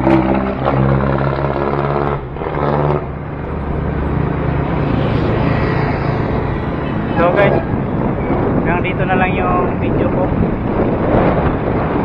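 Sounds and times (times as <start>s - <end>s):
road and wind noise: 0.0s - 12.0s
vehicle engine droning hum: 0.0s - 12.0s.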